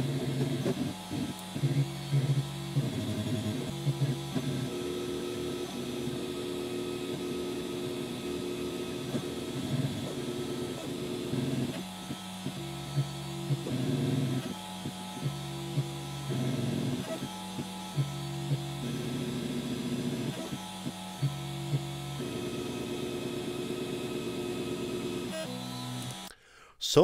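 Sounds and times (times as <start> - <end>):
stepper motors whining: 0.0 - 26.3.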